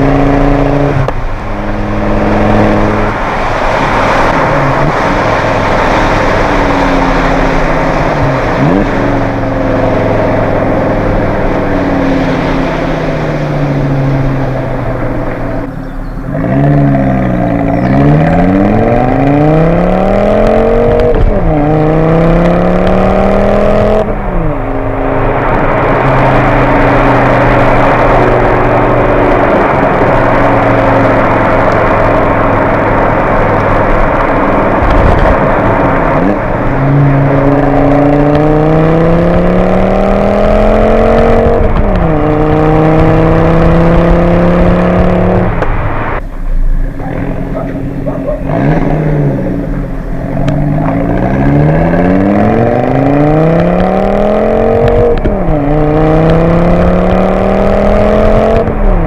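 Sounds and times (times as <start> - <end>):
broad rush of noise: 0.0 - 59.0
car engine accelerating through gears: 0.0 - 59.0.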